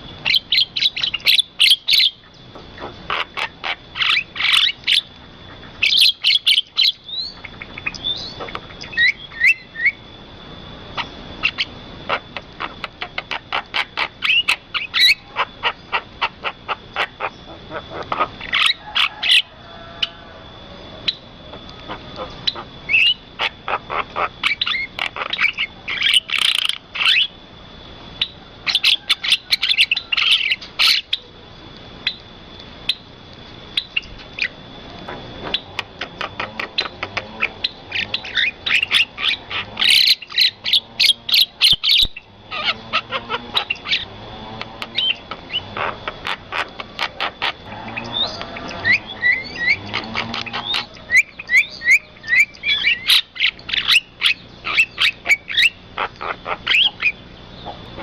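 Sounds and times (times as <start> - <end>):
birds chirping: 0.0 - 58.0
harsh squawk-like bird calls: 0.0 - 58.0
thin steady high tone: 0.0 - 58.0.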